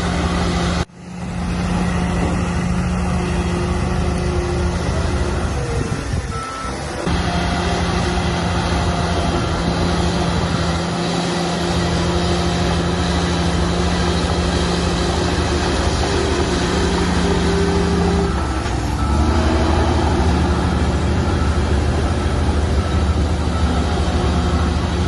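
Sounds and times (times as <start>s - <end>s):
heavy diesel engine running hard: 0.0s - 25.0s.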